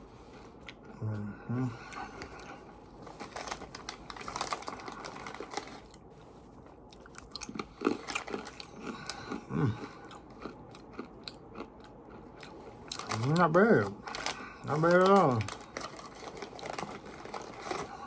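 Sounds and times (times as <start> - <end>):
crunchy chewing: 0.4 - 18.0.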